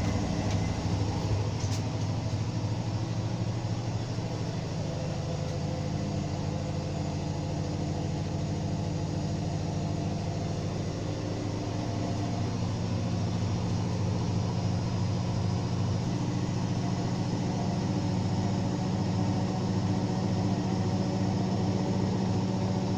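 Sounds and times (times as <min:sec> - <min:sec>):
washing machine motor hum: 0:00.0 - 0:22.9.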